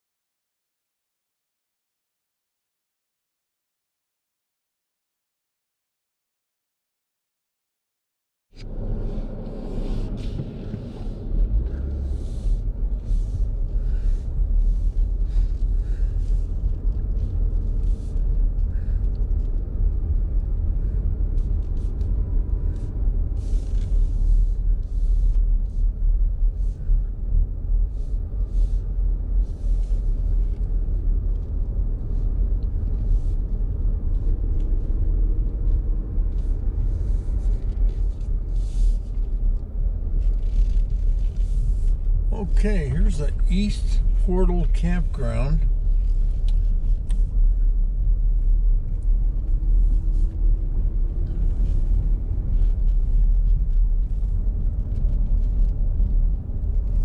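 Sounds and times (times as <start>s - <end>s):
car engine and tyres rumbling: 8.6s - 57.0s.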